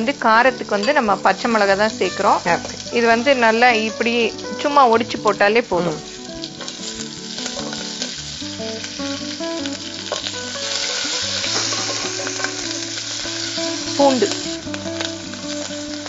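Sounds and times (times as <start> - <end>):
chillies sizzling in hot oil: 0.0 - 16.0.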